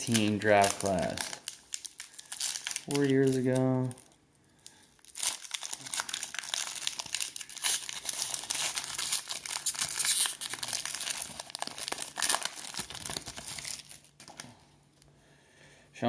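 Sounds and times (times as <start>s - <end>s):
wrapper crinkling and tearing: 0.0s - 14.7s.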